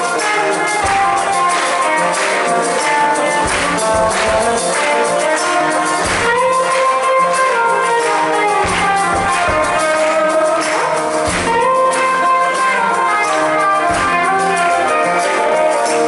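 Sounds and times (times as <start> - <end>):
held guitar notes: 0.0 - 16.0
live rock band playing: 0.0 - 16.0.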